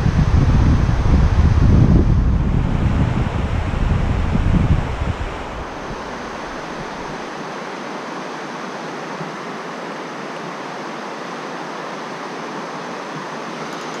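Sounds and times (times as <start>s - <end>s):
stream water flowing: 2.2s - 14.0s.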